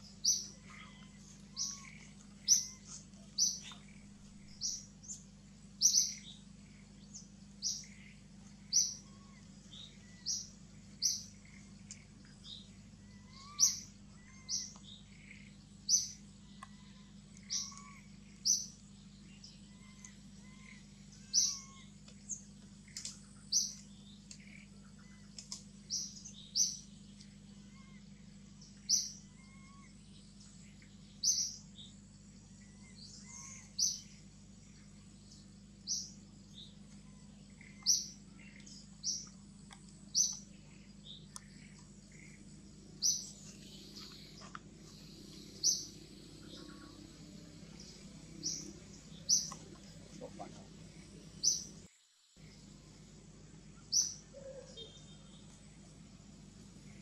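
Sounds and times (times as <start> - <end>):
bird chirping: 0.0 - 57.0
steady low hum: 0.0 - 57.0.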